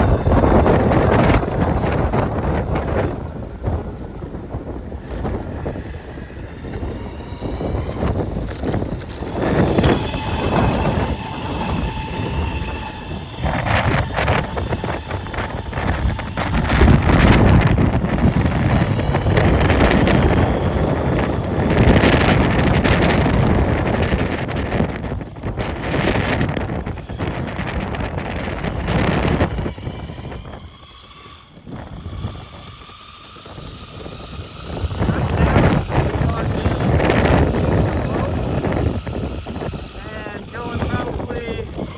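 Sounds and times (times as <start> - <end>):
electric skateboard rumble: 0.0 - 41.9
thin steady whine: 0.0 - 41.9
wind buffeting microphone: 0.0 - 41.9.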